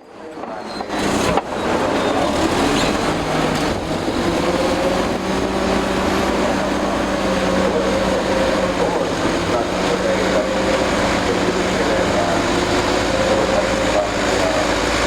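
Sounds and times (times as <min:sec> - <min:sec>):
bulldozer diesel engine running: 0:00.8 - 0:15.0.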